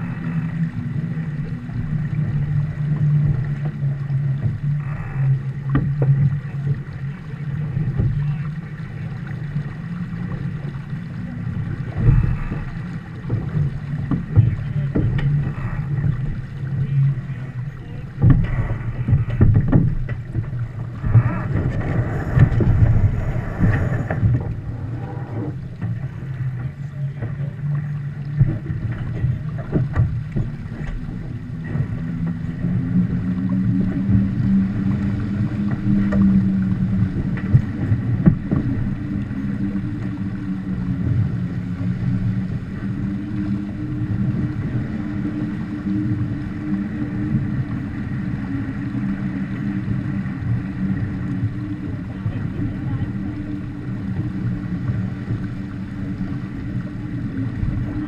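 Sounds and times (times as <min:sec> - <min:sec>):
steady low hum: 0:00.0 - 0:58.0
water rushing along hull: 0:00.0 - 0:58.0
water splashes: 0:00.0 - 0:58.0
wind buffeting microphone: 0:10.4 - 0:58.0.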